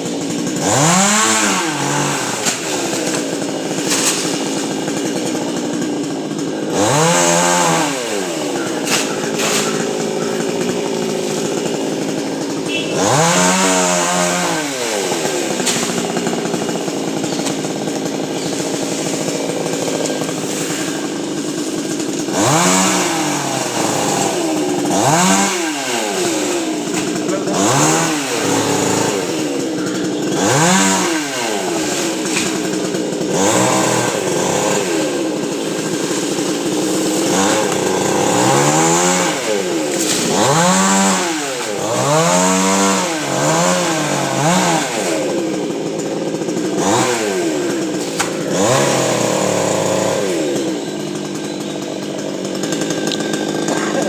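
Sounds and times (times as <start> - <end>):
chainsaw revving while cutting: 0.0 - 54.0.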